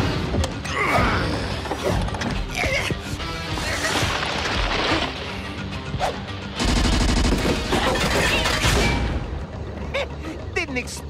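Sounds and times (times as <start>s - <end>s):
action music: 0.0s - 11.0s.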